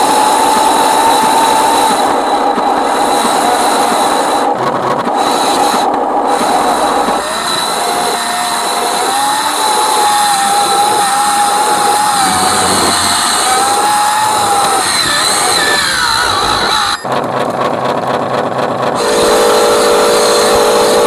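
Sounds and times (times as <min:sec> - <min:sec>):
toy truck motor whining: 0:00.0 - 0:17.1.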